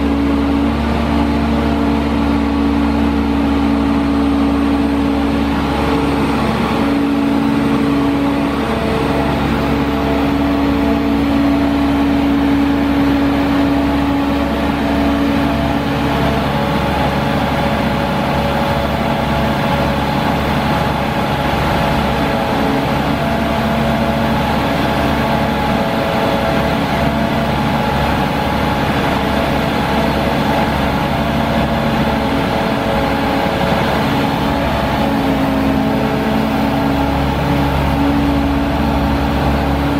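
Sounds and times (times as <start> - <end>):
diesel engine under hydraulic load: 0.0 - 39.9.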